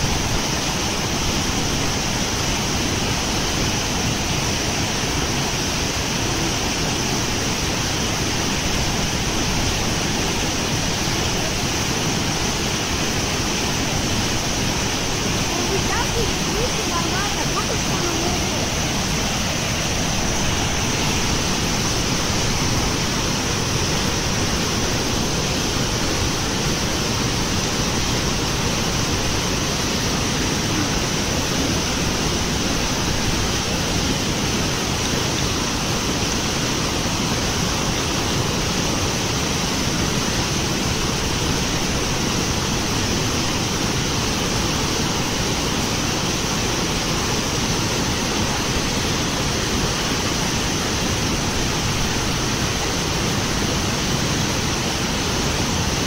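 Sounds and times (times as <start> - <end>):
floodwater rushing through spillway: 0.0 - 56.0.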